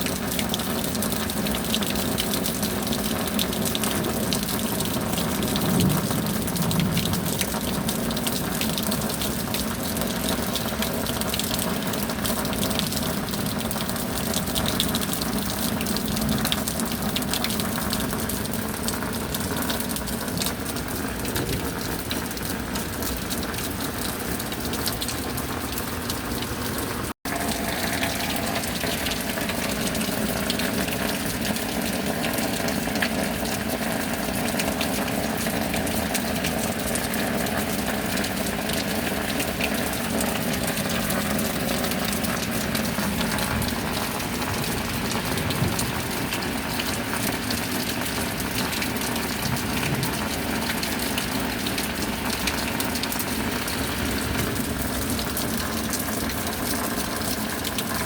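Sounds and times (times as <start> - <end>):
rain and running water: 0.0 - 58.0.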